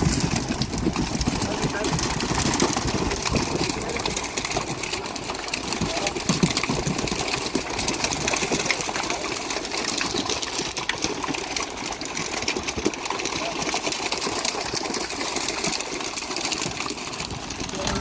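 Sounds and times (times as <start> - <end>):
boat engine clattering: 0.0 - 18.0.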